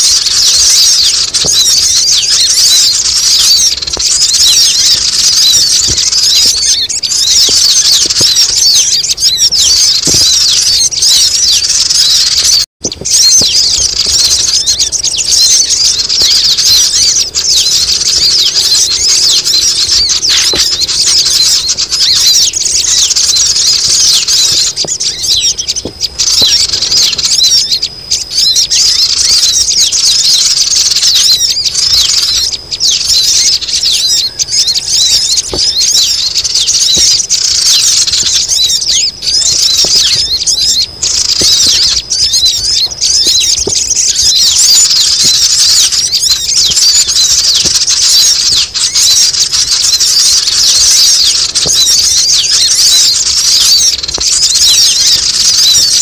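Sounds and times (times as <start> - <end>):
chorus of chirping birds: 0.0 - 56.0.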